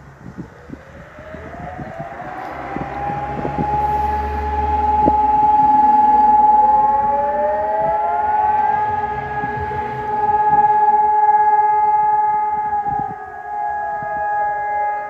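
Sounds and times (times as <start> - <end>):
distant siren rising tone: 0.0 - 15.0
second siren rising: 0.3 - 15.0.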